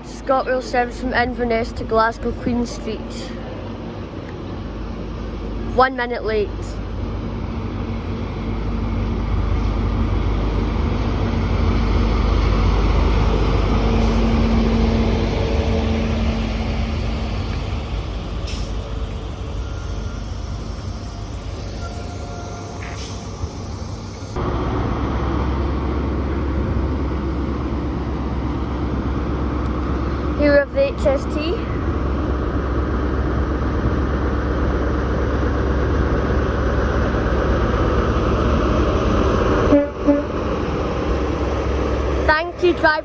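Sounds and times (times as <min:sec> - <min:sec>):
diesel train engine hum: 0:00.0 - 0:43.0
low train rumble: 0:00.0 - 0:43.0.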